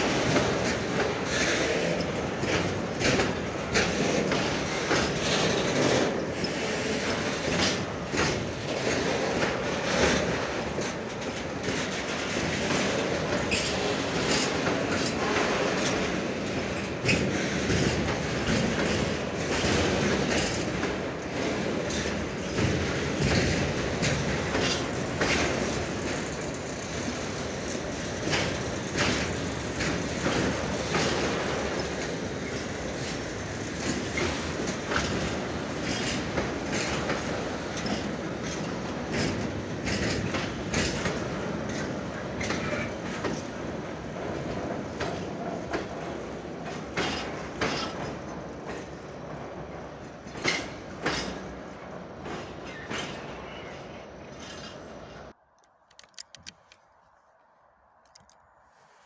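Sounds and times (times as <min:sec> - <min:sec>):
wheels clattering over rail joints: 0:00.0 - 0:55.2
freight train rumbling: 0:00.0 - 0:55.4.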